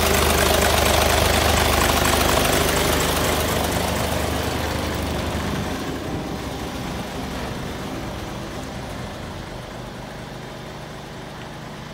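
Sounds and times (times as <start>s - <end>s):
truck diesel engine idling: 0.0s - 11.9s.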